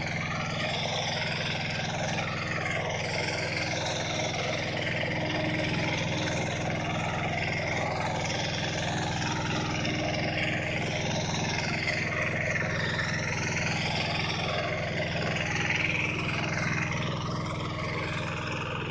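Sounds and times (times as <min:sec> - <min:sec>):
tractor engine running: 0:00.0 - 0:18.9
wavering high whine: 0:00.0 - 0:18.9.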